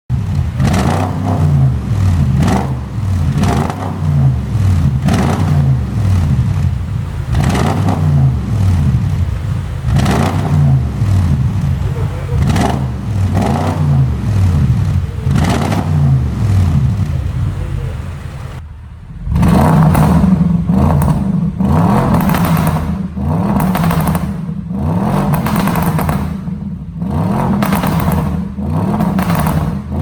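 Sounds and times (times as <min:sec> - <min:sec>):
car engine revving: 0:00.1 - 0:30.0
exhaust pops and crackles: 0:00.1 - 0:30.0.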